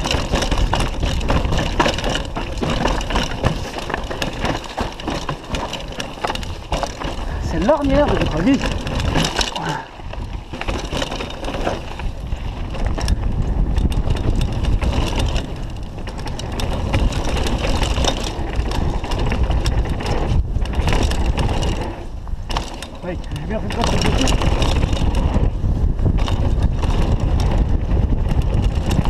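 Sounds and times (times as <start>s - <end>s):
tyres crunching over dirt and stones: 0.0s - 25.4s
bike rattling: 0.0s - 29.0s.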